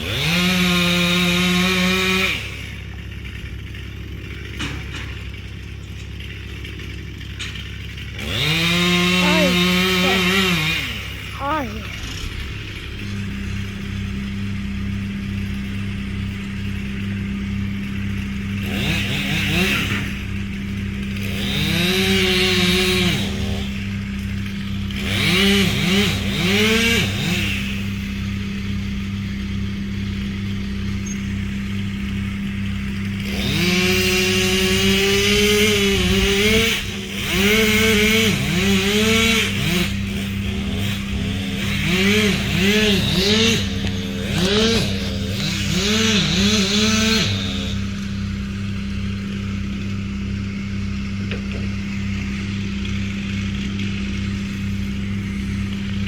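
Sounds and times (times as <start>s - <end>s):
chainsaw revving: 0.0s - 56.0s
low engine drone: 2.5s - 56.0s.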